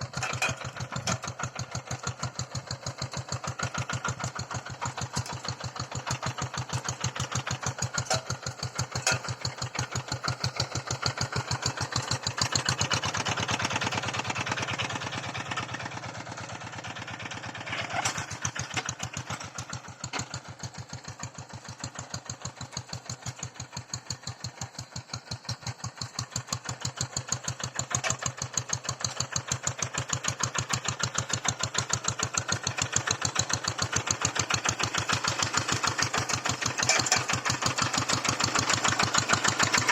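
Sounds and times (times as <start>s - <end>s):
hand tractor engine running: 0.0s - 39.9s.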